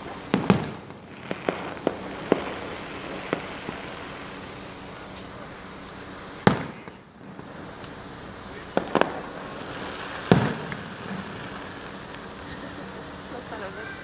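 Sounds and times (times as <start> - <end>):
fireworks banging: 0.0 - 14.0
steady background hiss: 0.0 - 14.0.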